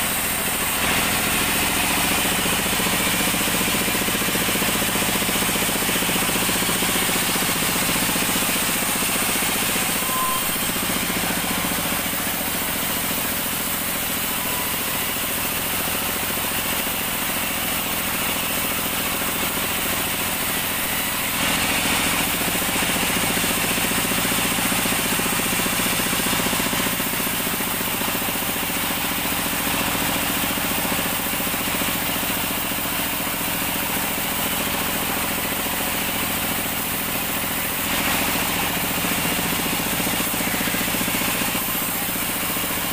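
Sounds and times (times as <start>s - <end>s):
band saw cutting log: 0.0s - 42.9s.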